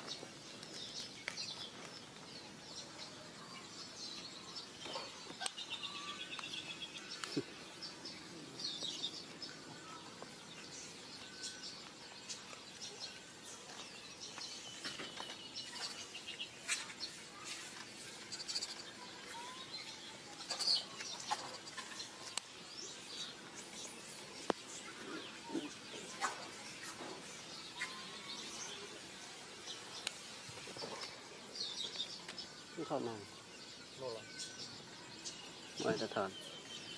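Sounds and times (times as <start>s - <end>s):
birds chirping and trilling: 0.0s - 36.9s
faint outdoor background noise: 0.0s - 36.9s.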